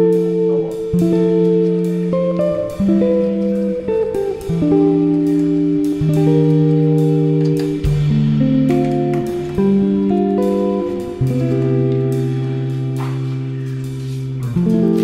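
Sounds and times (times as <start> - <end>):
guitar melody: 0.0 - 15.0.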